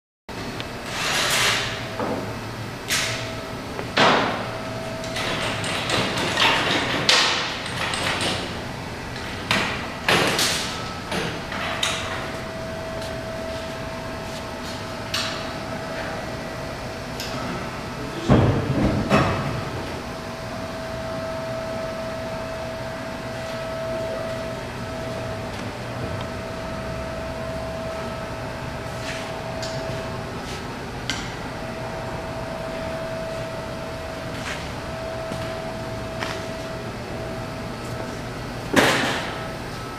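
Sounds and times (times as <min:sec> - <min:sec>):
faint hum with thin whine: 0:00.3 - 0:39.9.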